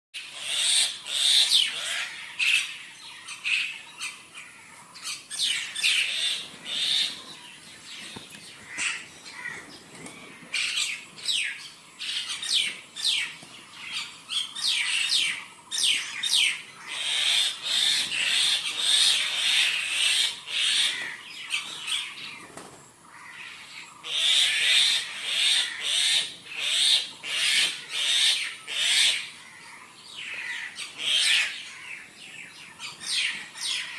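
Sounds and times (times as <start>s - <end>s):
birds chirping and calling: 0.2s - 33.9s.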